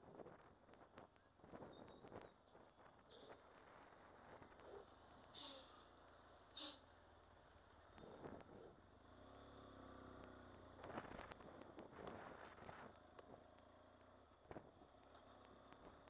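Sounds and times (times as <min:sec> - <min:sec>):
motorcycle engine hum: 0:00.0 - 0:16.0.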